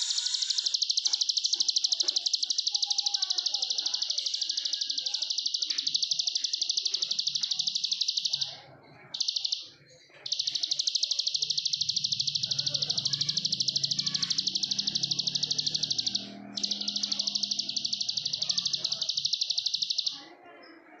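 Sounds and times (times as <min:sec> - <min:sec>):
bird singing rapid trill: 0:00.0 - 0:20.2.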